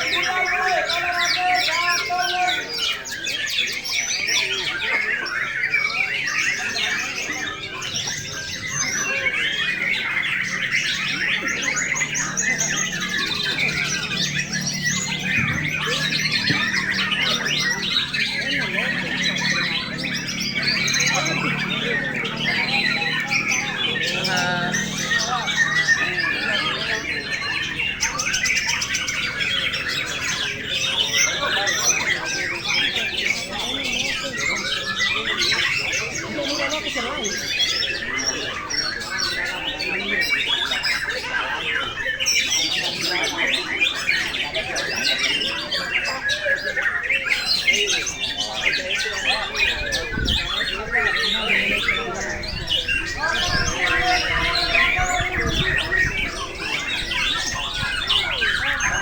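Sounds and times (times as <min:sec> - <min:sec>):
many songbirds singing: 0:00.0 - 0:59.0.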